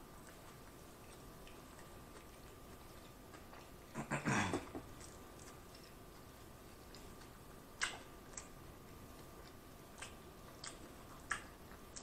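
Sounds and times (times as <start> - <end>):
chewing mouth sounds: 0.0 - 12.0.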